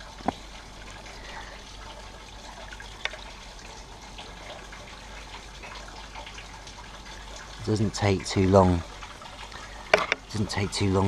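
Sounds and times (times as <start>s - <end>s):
running water hissing: 0.0s - 11.0s.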